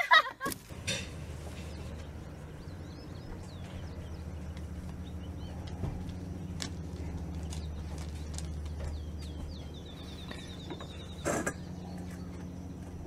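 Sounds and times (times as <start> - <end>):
low outdoor rumble: 0.0 - 13.0
small birds chirping: 1.1 - 13.0.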